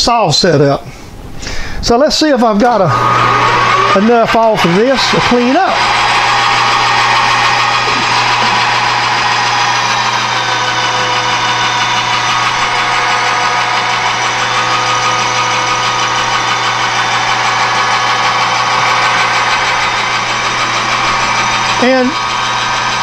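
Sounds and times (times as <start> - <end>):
metal lathe facing cut: 2.4 - 23.0.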